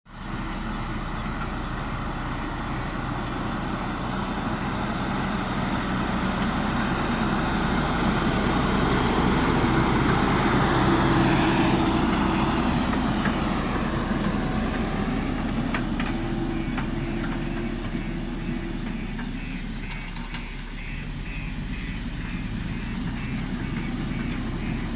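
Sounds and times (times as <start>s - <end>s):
diesel engine running under load: 0.1s - 24.9s.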